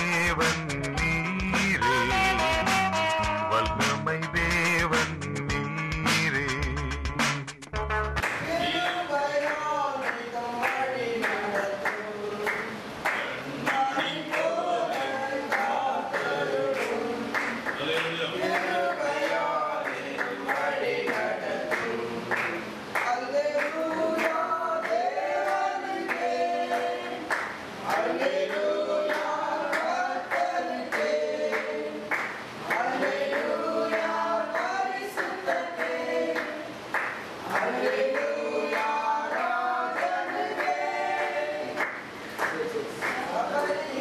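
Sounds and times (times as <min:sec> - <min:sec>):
hand-clapping in time: 0:00.0 - 0:43.8
congregation singing: 0:08.4 - 0:44.0.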